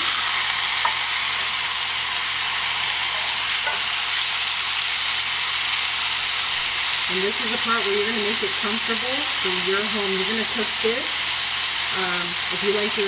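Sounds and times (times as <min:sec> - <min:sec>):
steak sizzling in a grill pan: 0:00.0 - 0:13.0.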